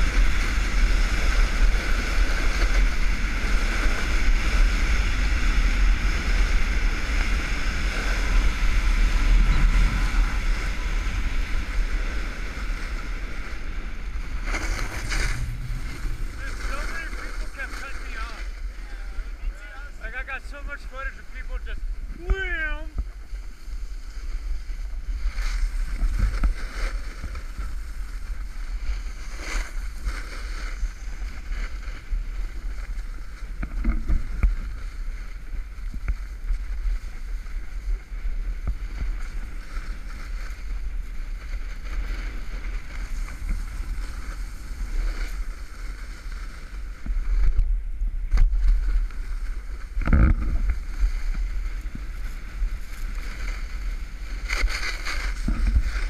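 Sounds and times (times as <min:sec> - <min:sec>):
skis scraping packed snow: 0:00.0 - 0:56.0
wind on camera microphone: 0:00.0 - 0:56.0.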